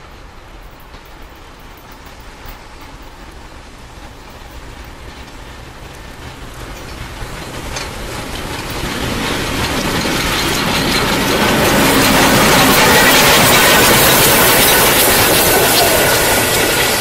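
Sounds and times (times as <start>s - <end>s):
steam train rumbling and hissing: 0.0s - 17.0s.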